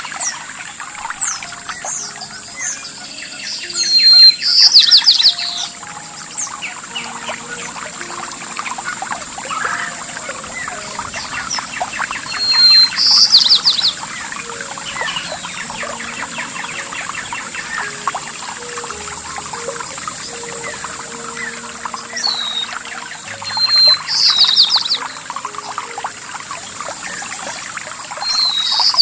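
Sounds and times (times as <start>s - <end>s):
bird whistle and trill: 0.0s - 29.0s
songbirds chirping: 0.0s - 29.0s
trickling water: 0.0s - 29.0s.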